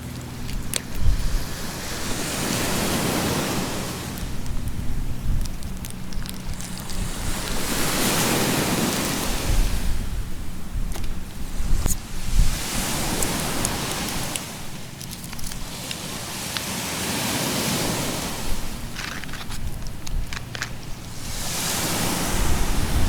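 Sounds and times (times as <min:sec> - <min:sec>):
wind buffeting microphone: 0:00.0 - 0:16.5, 0:17.4 - 0:23.0
sea waves washing onto beach: 0:00.0 - 0:23.0.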